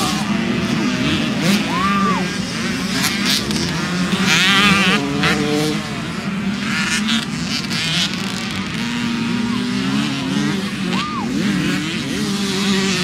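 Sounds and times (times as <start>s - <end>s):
drone of other engines: 0.0s - 13.0s
motocross bike engines revving: 0.0s - 13.0s.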